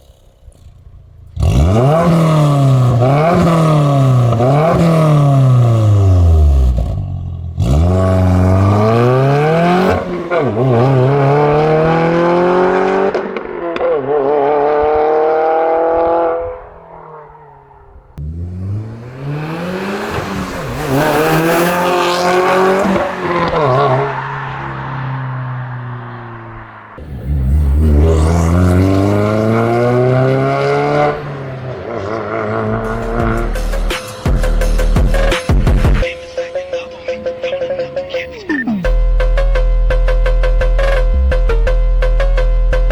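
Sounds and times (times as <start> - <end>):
car engine revving: 0.0 - 36.1.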